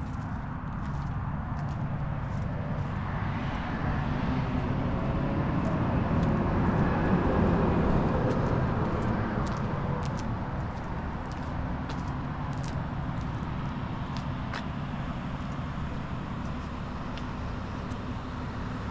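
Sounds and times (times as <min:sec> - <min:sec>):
road traffic rumble: 0:00.0 - 0:18.9.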